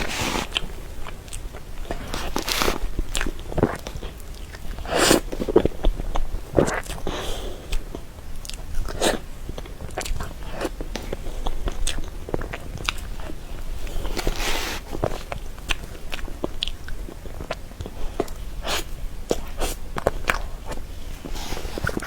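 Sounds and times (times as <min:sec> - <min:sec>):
wet chewing and mouth noises: 0:00.0 - 0:22.0.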